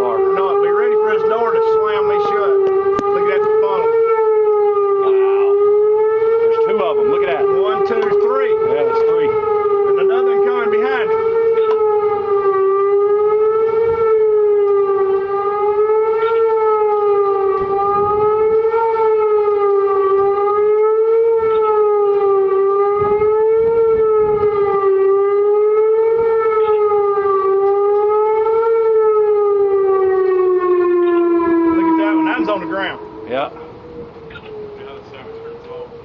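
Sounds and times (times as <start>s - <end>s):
tornado warning siren wailing: 0.0s - 36.0s.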